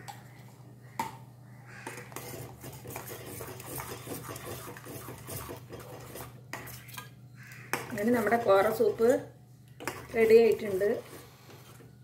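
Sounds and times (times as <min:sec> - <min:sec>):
spoon scraping metal pot: 0:01.8 - 0:12.0.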